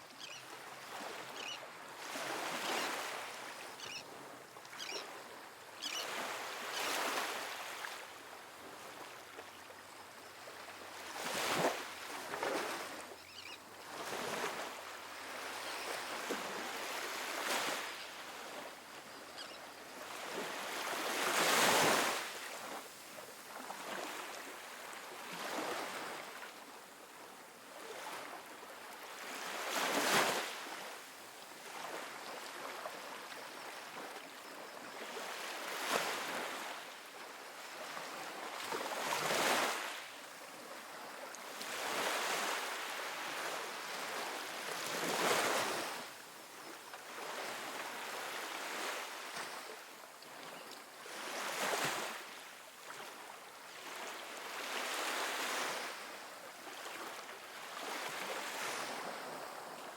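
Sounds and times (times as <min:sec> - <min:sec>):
ocean waves breaking on beach: 0:00.0 - 0:09.5, 0:13.9 - 0:19.1, 0:19.9 - 0:59.9.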